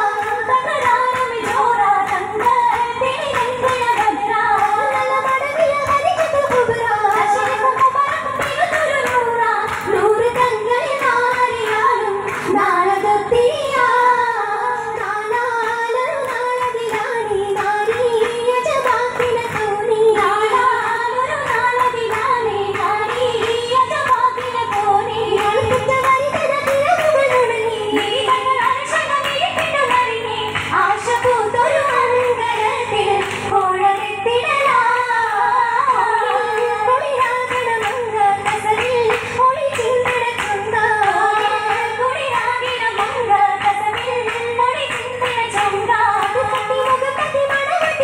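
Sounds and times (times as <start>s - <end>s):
rhythmic handclapping: 0.0s - 48.0s
woman singing a wavering melody: 0.0s - 48.0s.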